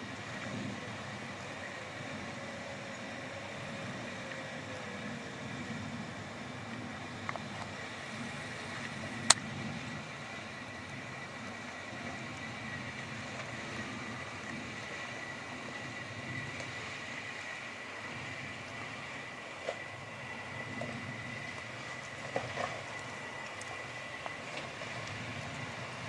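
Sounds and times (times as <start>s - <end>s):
off-road engine running low: 0.0s - 26.0s.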